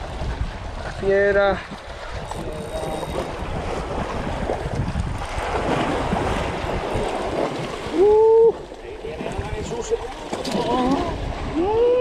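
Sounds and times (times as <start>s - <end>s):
waves washing against rocks: 0.0s - 11.6s
wind buffeting microphone: 0.0s - 12.0s.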